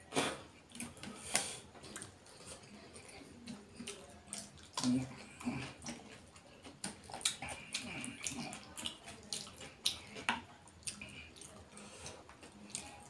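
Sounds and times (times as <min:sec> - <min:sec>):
wet eating smacks and clicks: 0:00.2 - 0:13.0
fingers squelching through food: 0:00.6 - 0:13.0.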